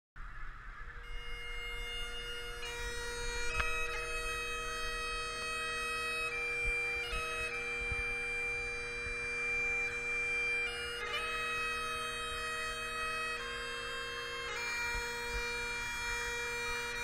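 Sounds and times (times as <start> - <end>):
bagpipe music: 0.3 - 17.0.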